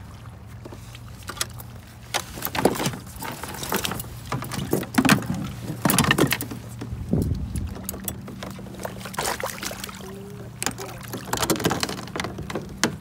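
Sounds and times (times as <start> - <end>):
fishing gear knocking and clattering: 1.2 - 9.7, 10.5 - 13.0.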